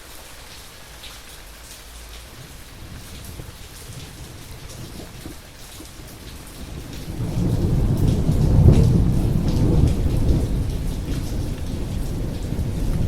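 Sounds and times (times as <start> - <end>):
rain pattering: 0.0 - 13.0
thunder rumbling: 2.3 - 13.0.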